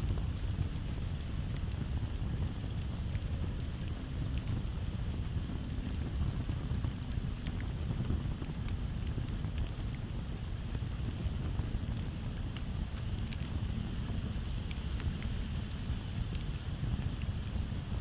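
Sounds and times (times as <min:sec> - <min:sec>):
campfire crackles and pops: 0:00.0 - 0:18.0
low rumble of flames: 0:00.0 - 0:18.0.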